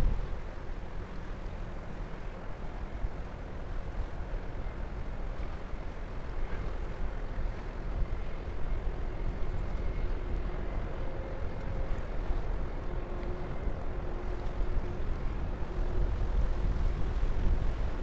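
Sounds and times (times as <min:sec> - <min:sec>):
faint engine tones: 0:00.0 - 0:18.0
ship low rumble: 0:00.0 - 0:18.0
wind buffeting microphone: 0:00.0 - 0:18.0.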